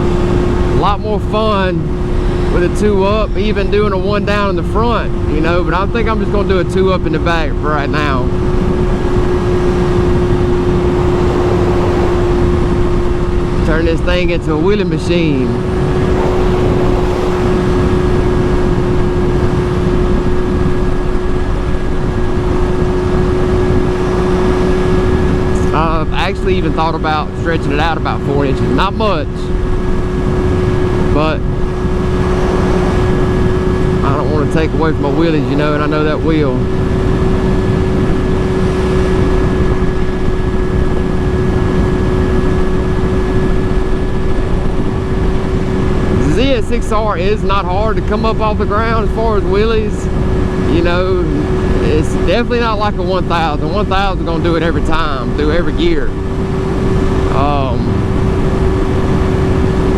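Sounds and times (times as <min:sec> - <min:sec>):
motorcycle engine cruising: 0:00.0 - 0:59.9
wind rushing on microphone: 0:00.0 - 0:59.9.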